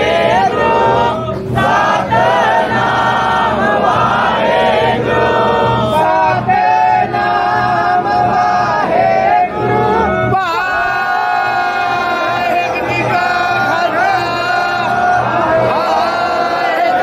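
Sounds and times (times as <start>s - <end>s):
men chanting a hymn in unison: 0.0s - 17.0s.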